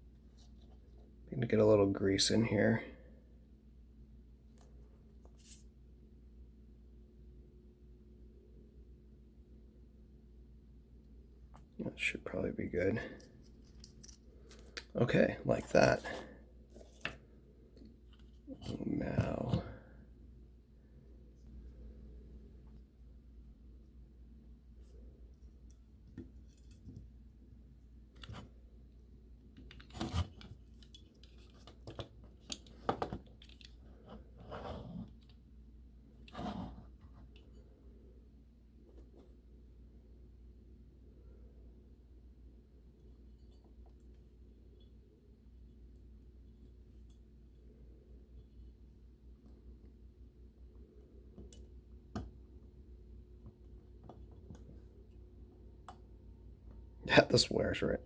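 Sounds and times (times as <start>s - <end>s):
faint low hum: 0.0s - 58.0s.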